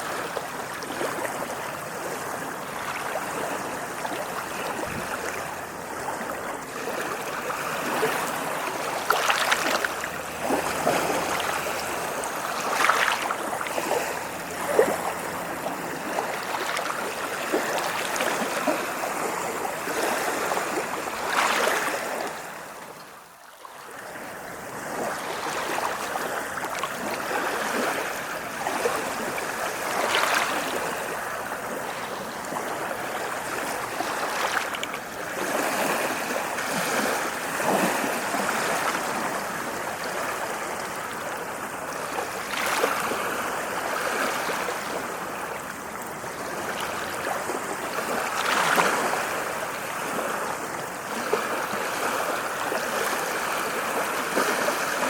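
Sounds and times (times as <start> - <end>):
ocean surf washing ashore: 0.0 - 23.0, 23.9 - 55.0.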